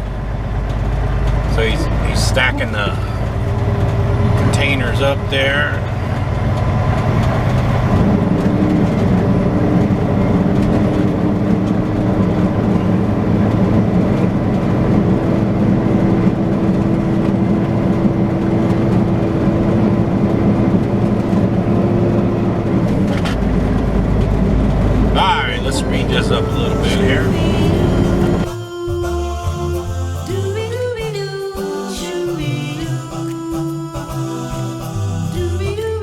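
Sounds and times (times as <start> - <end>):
diesel truck engine rumbling: 0.0 - 36.0
droning hum: 0.0 - 36.0.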